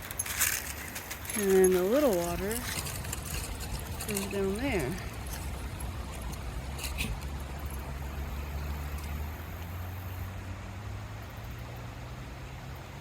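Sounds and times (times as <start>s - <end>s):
distant road traffic rumble: 0.0s - 13.0s.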